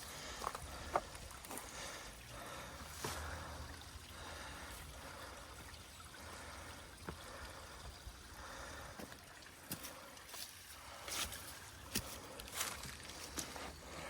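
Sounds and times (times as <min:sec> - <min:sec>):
faint flowing water: 0:00.0 - 0:14.0.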